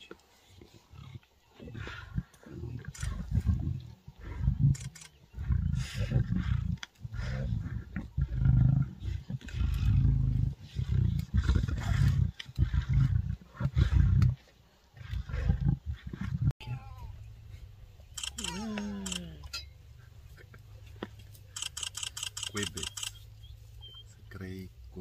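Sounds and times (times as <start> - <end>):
lions growling: 0.4 - 16.6, 17.5 - 24.4.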